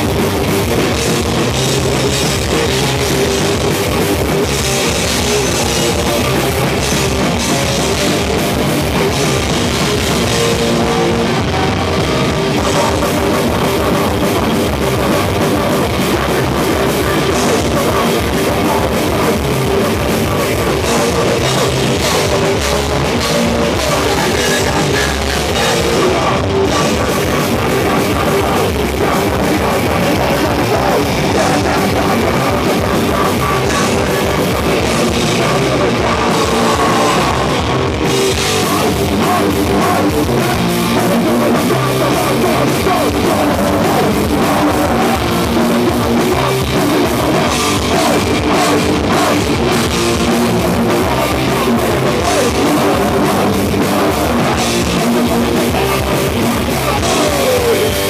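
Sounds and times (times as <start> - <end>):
distorted electric guitars: 0.0 - 58.0
drum kit: 0.0 - 58.0.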